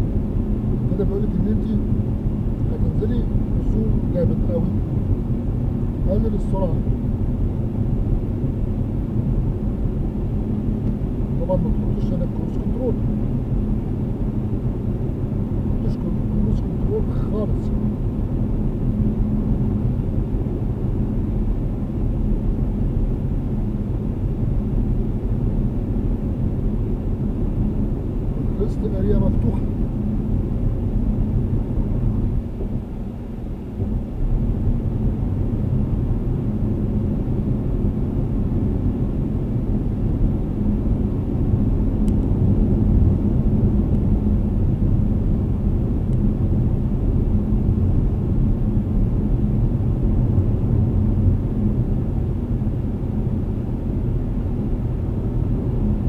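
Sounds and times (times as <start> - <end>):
car interior road noise: 0.0 - 56.0.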